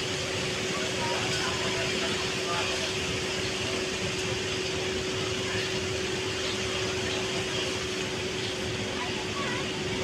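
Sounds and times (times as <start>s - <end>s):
mechanical hum with steady tone: 0.0s - 10.0s.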